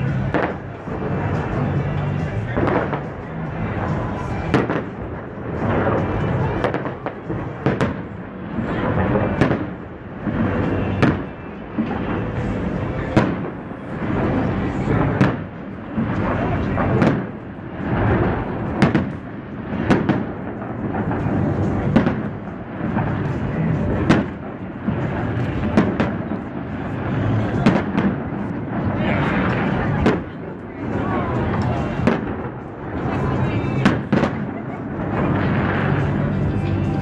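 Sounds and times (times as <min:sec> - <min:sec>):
continuous fireworks din: 0:00.0 - 0:37.0
fireworks bangs: 0:00.0 - 0:37.0.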